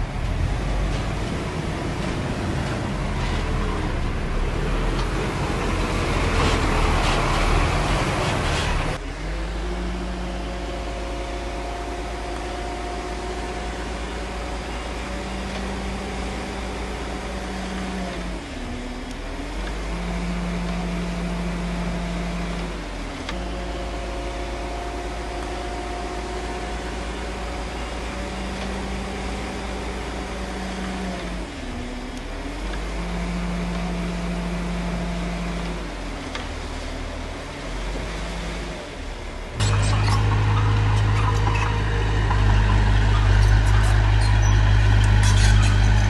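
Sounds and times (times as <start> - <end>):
construction machinery engine rumbling: 0.0 - 46.0.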